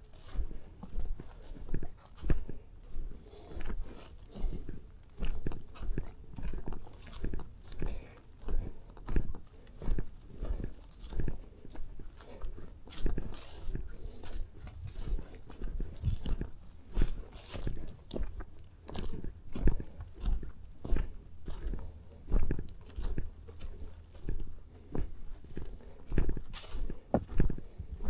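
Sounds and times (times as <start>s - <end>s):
footsteps on forest trail: 0.0s - 28.0s.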